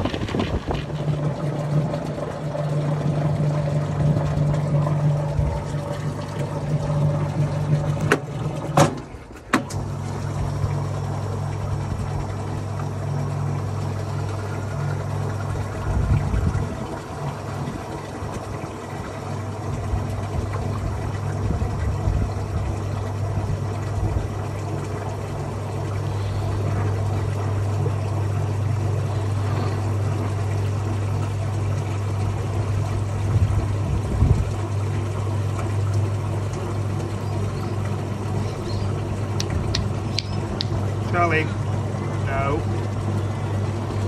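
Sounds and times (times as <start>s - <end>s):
washer motor hum: 0.0s - 44.0s
water churning: 0.0s - 44.0s.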